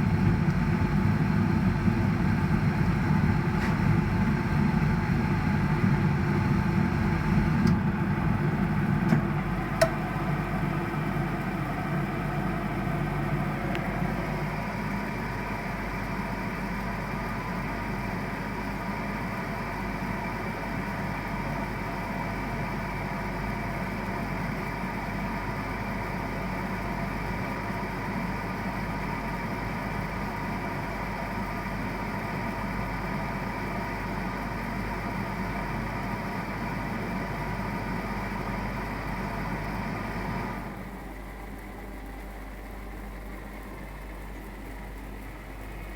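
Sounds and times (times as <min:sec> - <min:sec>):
gas boiler humming and rattling: 0:00.0 - 0:45.9.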